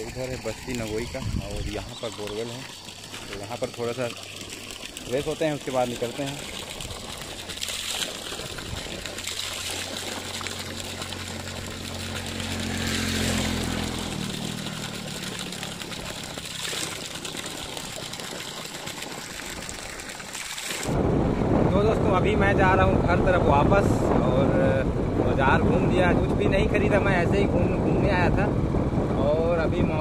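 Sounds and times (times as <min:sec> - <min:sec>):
water gushing and splashing: 0:00.0 - 0:24.2.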